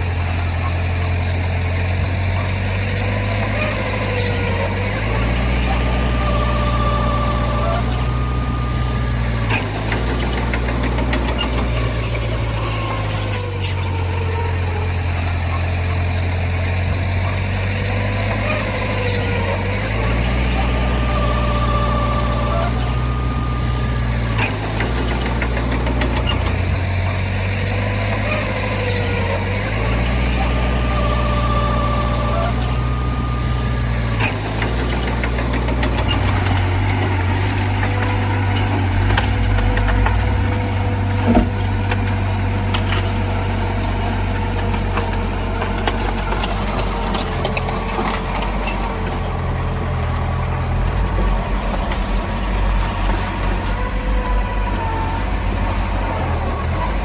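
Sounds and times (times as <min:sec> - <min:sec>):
heavy diesel engine running: 0:00.0 - 0:57.0
machinery whine: 0:00.0 - 0:57.0.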